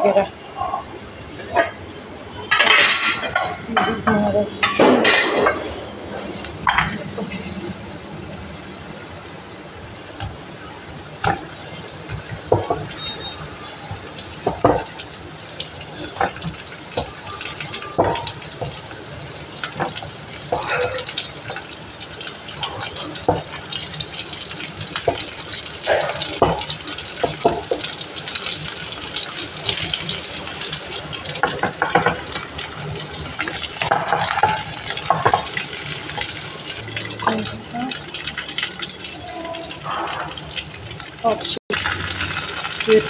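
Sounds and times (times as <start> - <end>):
fish sizzling in oil: 1.3 - 43.0.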